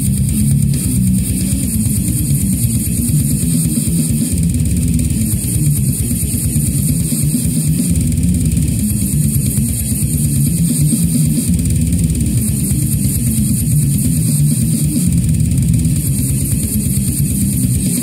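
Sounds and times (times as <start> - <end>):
distorted electric guitar: 0.0 - 18.0
drums pounding: 0.0 - 18.0.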